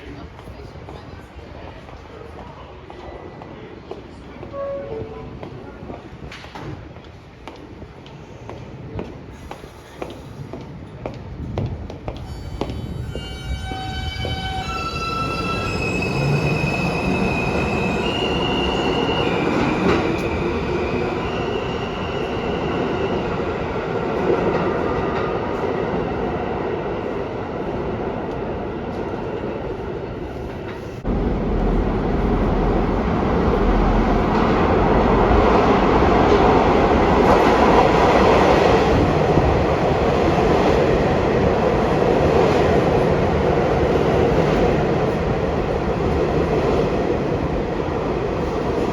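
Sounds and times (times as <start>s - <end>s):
subway train rumbling on rails: 0.0s - 48.9s.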